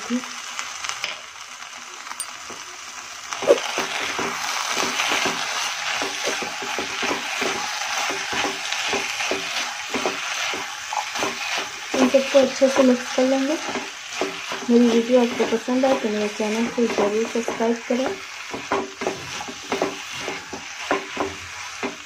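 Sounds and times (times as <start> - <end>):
vegetables sizzling in a pan: 0.0 - 22.0
wooden spatula scraping pan: 3.4 - 22.0.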